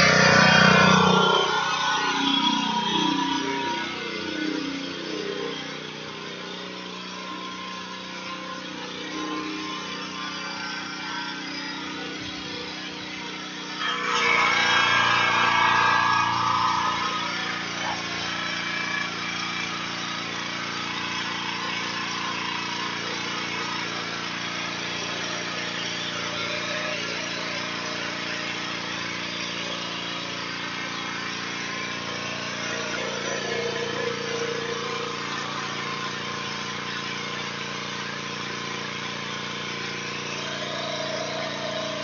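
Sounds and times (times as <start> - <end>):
pressure washer engine running: 0.0 - 42.0.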